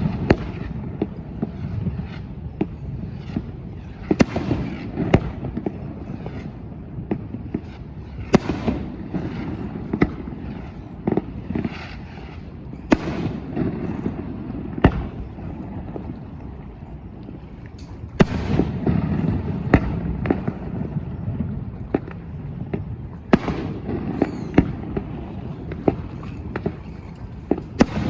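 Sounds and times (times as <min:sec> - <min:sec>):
fireworks banging: 0:00.0 - 0:28.0
fireworks crackling: 0:00.0 - 0:28.0.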